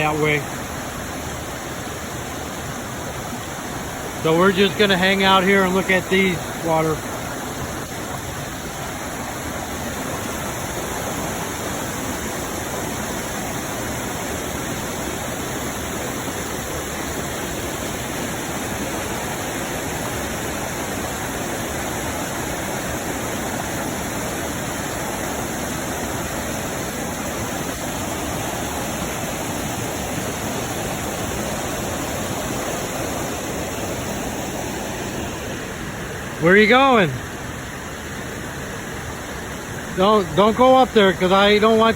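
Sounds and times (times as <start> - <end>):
waterfall and creek rushing: 0.0 - 41.9.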